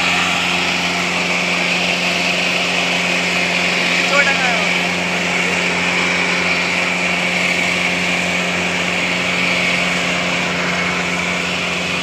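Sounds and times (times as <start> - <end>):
diesel tractor engines under load: 0.0 - 12.0.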